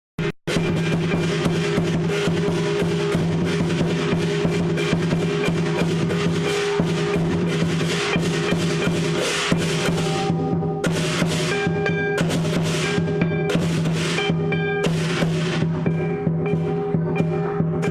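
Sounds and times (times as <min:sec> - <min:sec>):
big drum beaten rapidly: 0:00.2 - 0:17.9
clashing cymbals: 0:00.5 - 0:17.9.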